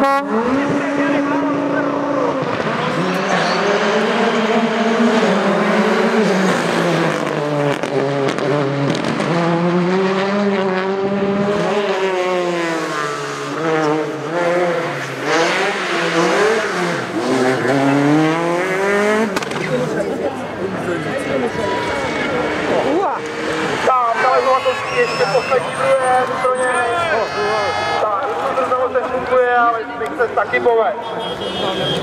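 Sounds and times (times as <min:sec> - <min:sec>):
rally car engines revving: 0:00.0 - 0:32.0.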